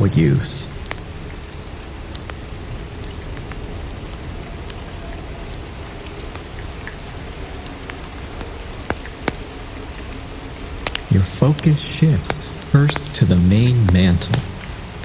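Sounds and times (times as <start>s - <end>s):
steady rainfall: 0.0s - 15.0s
drip-like ticks: 0.8s - 14.8s.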